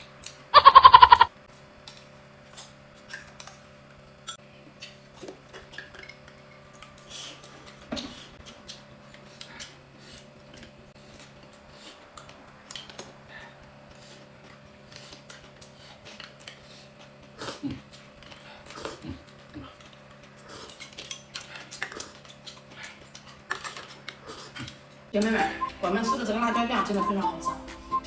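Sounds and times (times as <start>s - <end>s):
chewing and slurping noodles: 1.9s - 25.1s.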